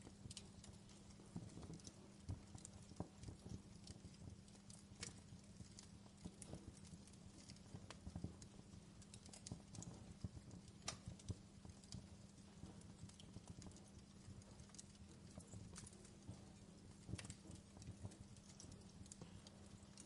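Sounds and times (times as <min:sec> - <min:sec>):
fire crackling and popping: 0:00.0 - 0:20.0
low steady hum: 0:00.0 - 0:20.0.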